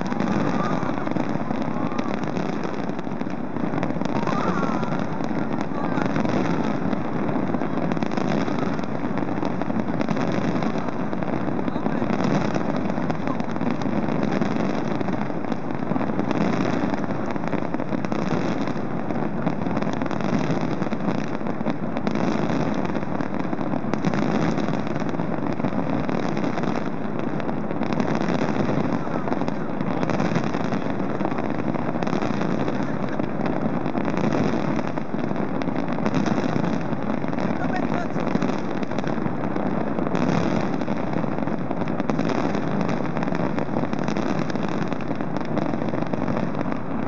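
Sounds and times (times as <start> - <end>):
distant fireworks rumble: 0.0 - 47.0.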